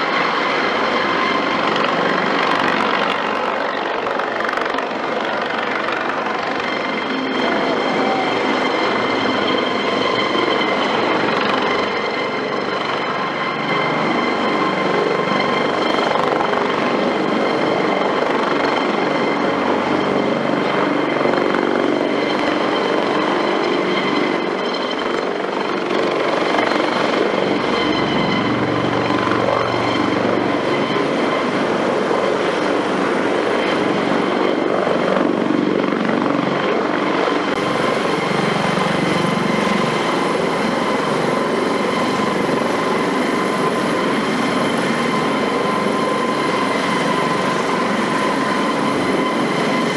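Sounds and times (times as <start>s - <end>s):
helicopter rotor noise: 0.0s - 49.9s
high turbine whine: 0.0s - 49.9s.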